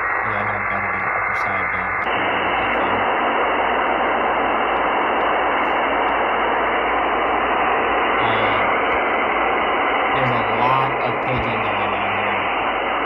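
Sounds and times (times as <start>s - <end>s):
radio data hiss: 0.0s - 13.0s.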